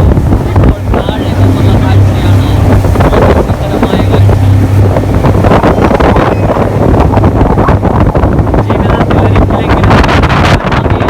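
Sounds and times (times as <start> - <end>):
speedboat engine: 0.0 - 11.0
wind buffeting microphone: 0.0 - 11.0.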